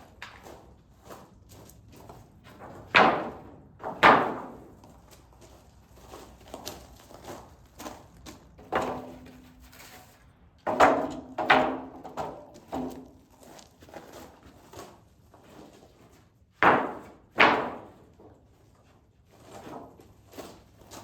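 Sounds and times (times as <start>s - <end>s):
handling of boards: 0.0s - 21.0s.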